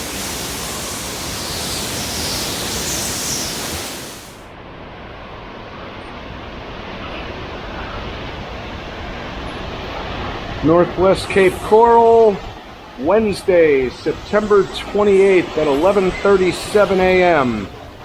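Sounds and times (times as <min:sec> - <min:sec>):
storm wind and rain: 0:00.0 - 0:18.0.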